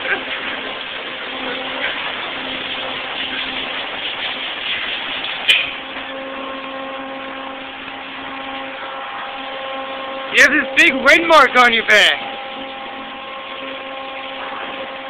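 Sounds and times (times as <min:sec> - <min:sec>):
car wash spray and brushes: 0:00.0 - 0:15.0
motor hum: 0:00.0 - 0:15.0.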